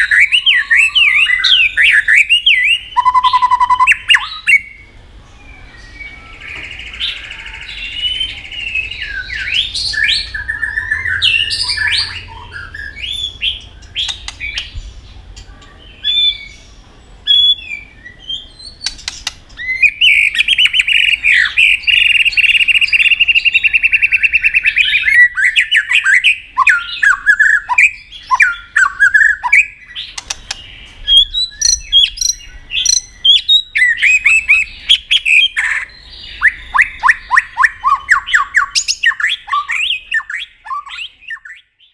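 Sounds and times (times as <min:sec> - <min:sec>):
songbird singing whistled phrases: 0:00.0 - 0:14.9, 0:15.8 - 0:41.9.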